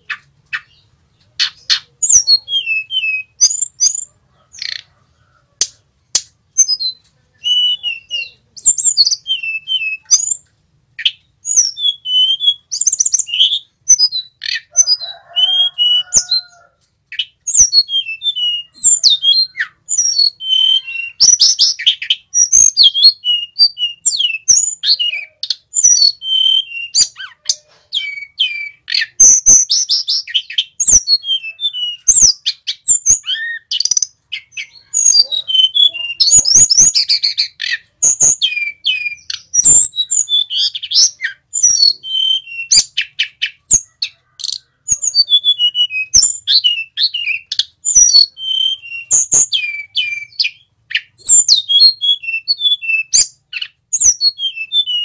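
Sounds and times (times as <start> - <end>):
bird singing whistles and trills: 1.4 - 4.8, 6.6 - 55.0.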